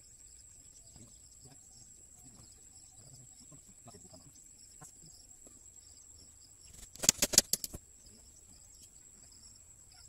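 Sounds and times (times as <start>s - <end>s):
faint chirps: 0.0s - 10.0s
high insect drone: 0.0s - 10.0s.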